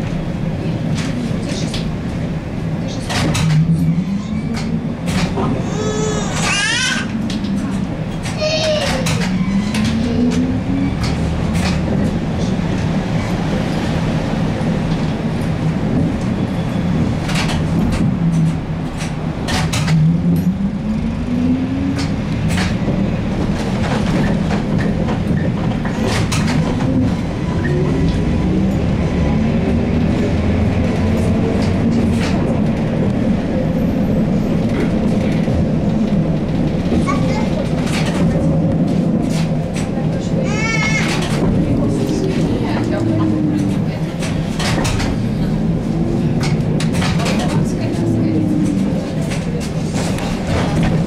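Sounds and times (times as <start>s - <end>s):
trolleybus running rumble: 0.0s - 51.0s.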